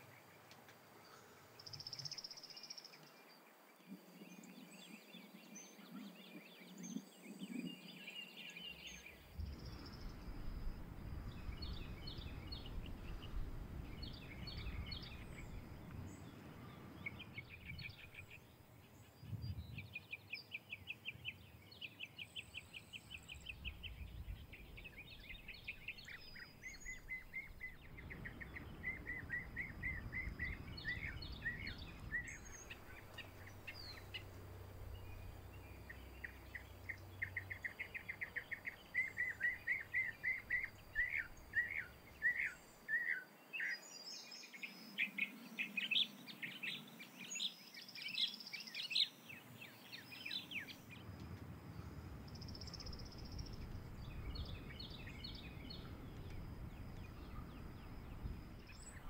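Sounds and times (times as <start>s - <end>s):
songbirds trilling: 0.0s - 59.0s.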